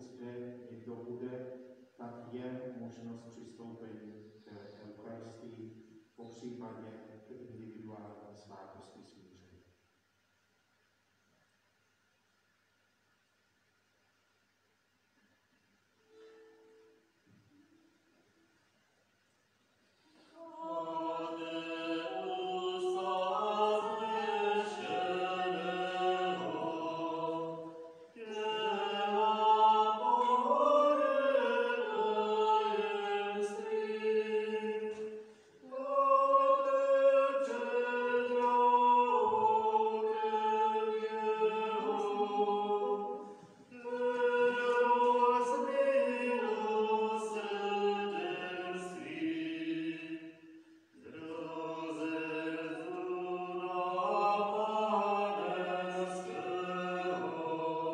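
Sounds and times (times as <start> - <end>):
voices chanting a hymn: 0.0 - 9.5, 20.1 - 57.9.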